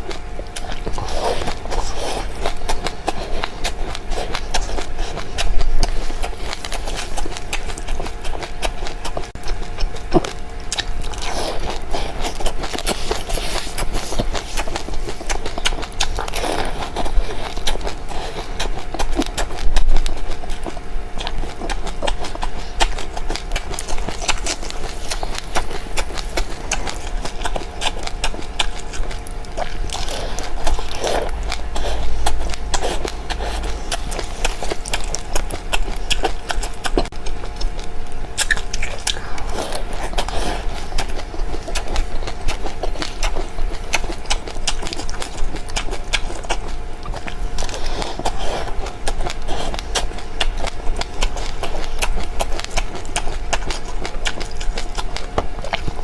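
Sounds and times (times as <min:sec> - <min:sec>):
chewing crunchy seeds: 0:00.0 - 0:56.0
faint steady hum: 0:00.0 - 0:56.0.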